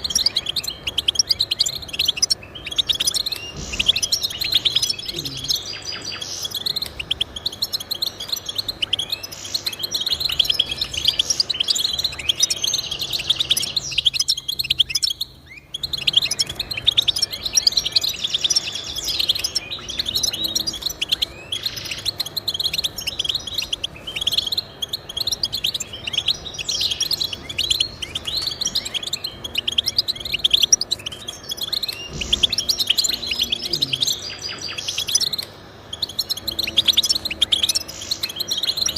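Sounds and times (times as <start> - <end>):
finches twittering: 0.0 - 38.9.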